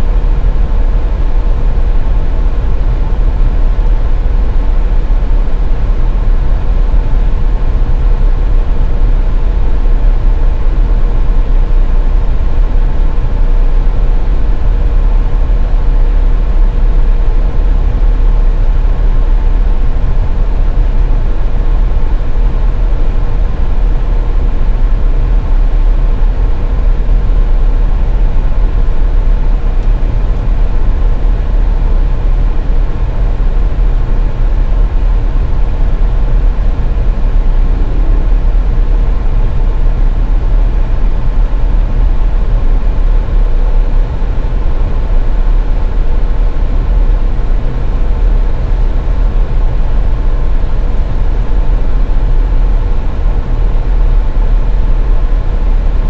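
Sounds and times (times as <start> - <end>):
car road and engine rumble: 0.0 - 56.0
faint constant hum: 0.0 - 56.0.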